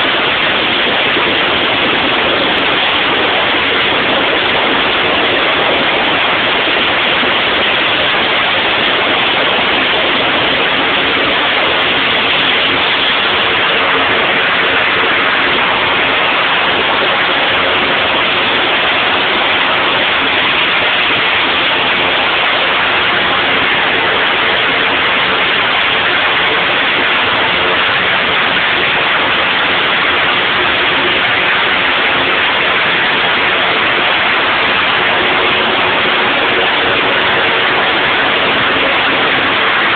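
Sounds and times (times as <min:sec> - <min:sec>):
turboprop engine running: 0:00.0 - 0:39.9.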